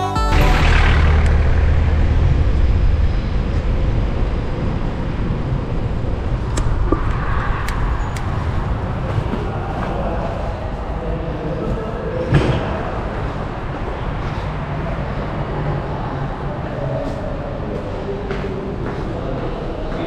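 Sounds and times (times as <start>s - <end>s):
wind and road noise: 0.5s - 20.0s.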